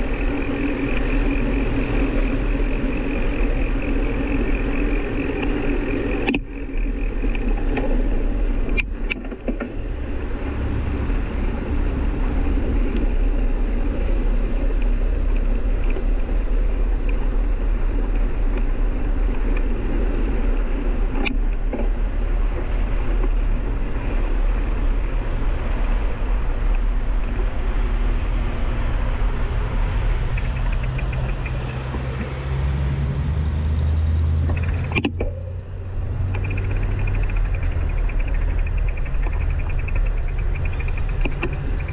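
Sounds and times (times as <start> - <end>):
wind and road noise rumble: 0.0 - 41.9.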